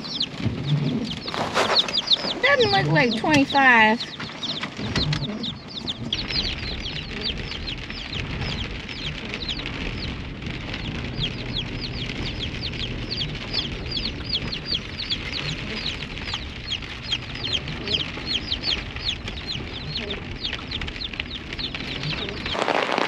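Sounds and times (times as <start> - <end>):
baby chicks peeping: 0.0 - 23.0.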